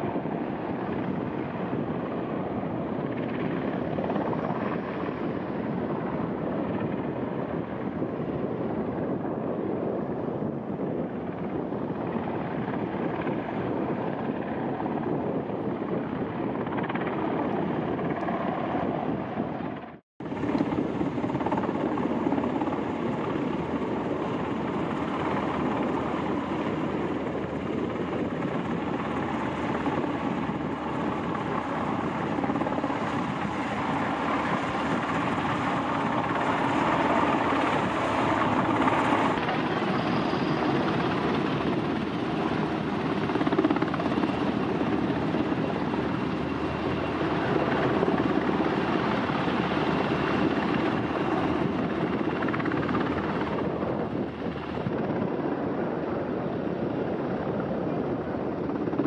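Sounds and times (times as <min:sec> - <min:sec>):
helicopter rotors and engines: 0:00.0 - 0:59.0.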